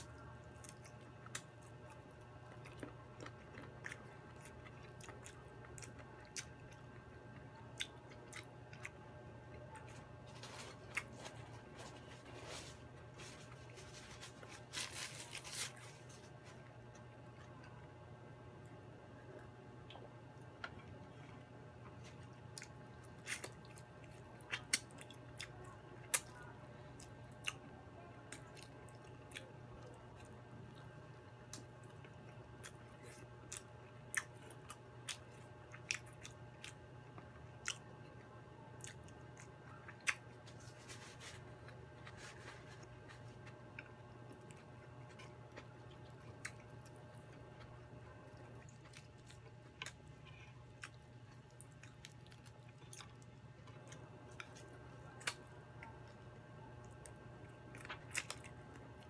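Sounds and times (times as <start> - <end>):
faint low hum: 0.0 - 59.0
person chewing and eating: 0.0 - 59.0.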